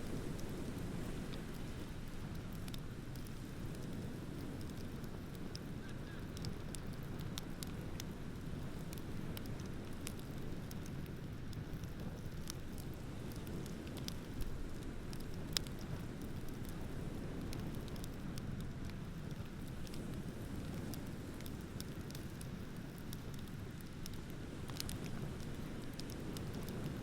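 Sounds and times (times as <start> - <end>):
bonfire crackling and popping: 0.0 - 27.0.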